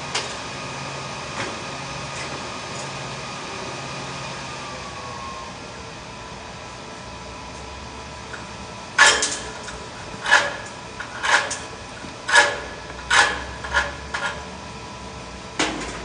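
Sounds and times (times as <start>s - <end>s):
steady shop hum: 0.0s - 16.0s.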